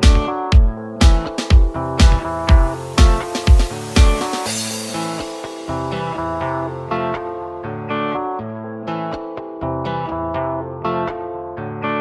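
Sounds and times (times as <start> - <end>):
music with steady beat: 0.0 - 10.1.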